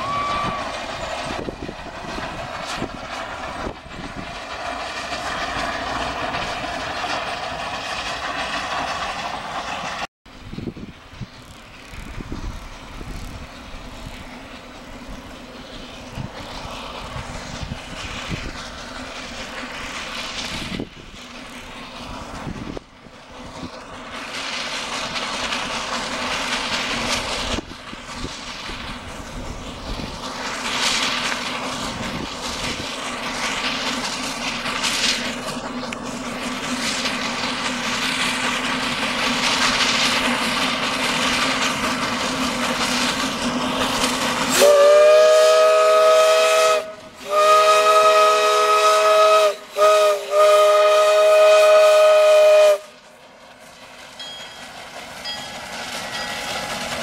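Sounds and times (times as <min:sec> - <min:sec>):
steam locomotive running: 0:00.0 - 0:57.0.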